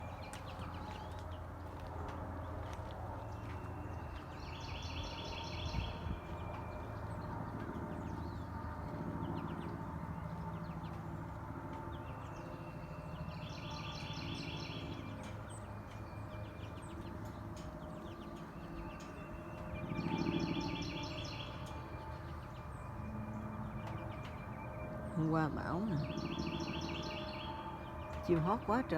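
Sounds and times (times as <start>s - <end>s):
bird song with trill: 0.0s - 1.7s, 2.3s - 28.9s.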